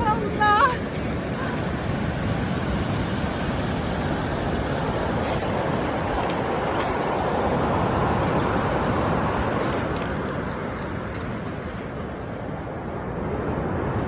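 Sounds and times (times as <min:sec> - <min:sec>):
sea waves breaking: 0:00.0 - 0:14.0.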